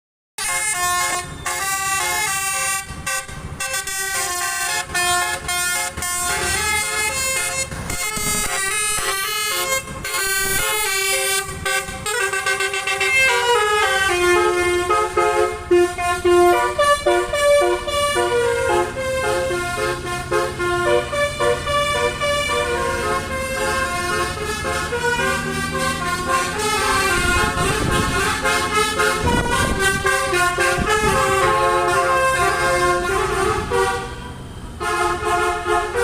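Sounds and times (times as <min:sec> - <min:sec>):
bus multi-tone horn tune: 0:00.4 - 0:36.0
low engine rumble: 0:00.8 - 0:36.0.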